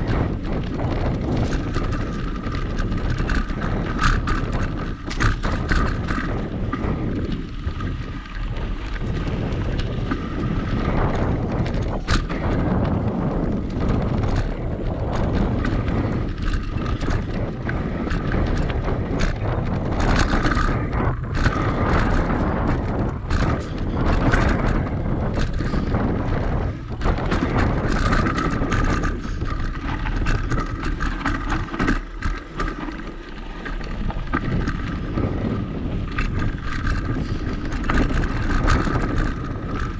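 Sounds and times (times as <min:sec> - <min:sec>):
bike rattling over bumps: 0:00.0 - 0:39.9
tyres rolling over dirt and rocks: 0:00.0 - 0:39.9
wind noise on microphone: 0:00.0 - 0:39.9.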